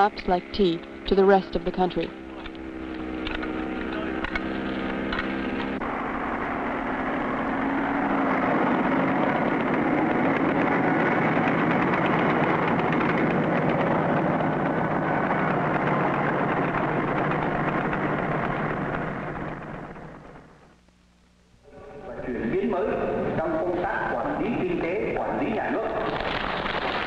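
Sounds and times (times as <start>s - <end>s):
clatter of tractor tracks: 0.0s - 20.7s, 23.3s - 27.0s
tractor engine running: 0.0s - 20.8s, 23.4s - 27.0s.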